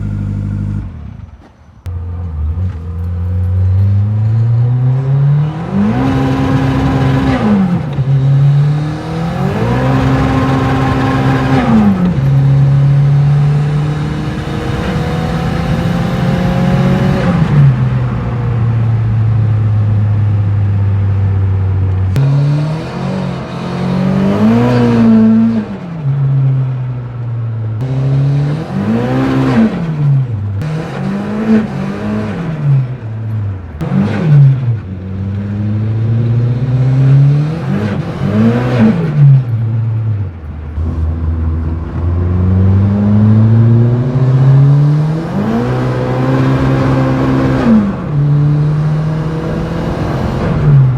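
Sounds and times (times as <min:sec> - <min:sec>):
car engine revving: 0:01.9 - 0:50.9.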